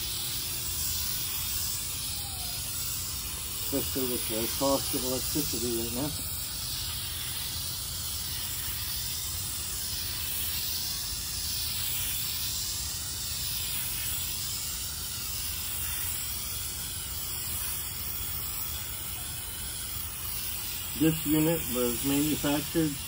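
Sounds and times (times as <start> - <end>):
aerosol spray hissing: 0.0 - 23.0.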